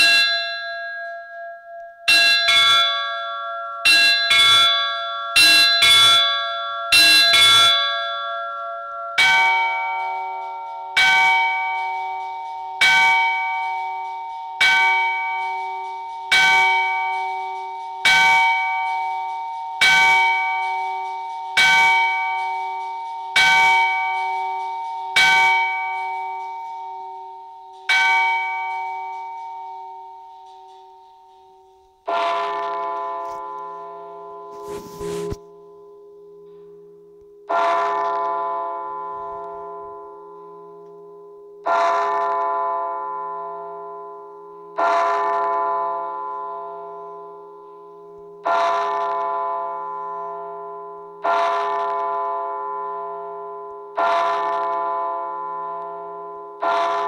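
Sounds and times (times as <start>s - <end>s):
deep bell struck steadily: 0.0s - 34.6s, 35.4s - 57.0s
church bell strikes: 0.0s - 34.7s, 35.4s - 57.0s.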